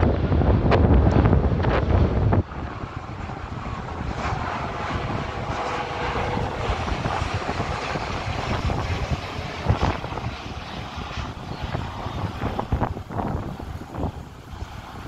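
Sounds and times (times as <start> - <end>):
jet engines passing overhead: 0.0 - 15.0
wind buffeting microphone: 0.0 - 15.0
faint whine: 2.1 - 15.0.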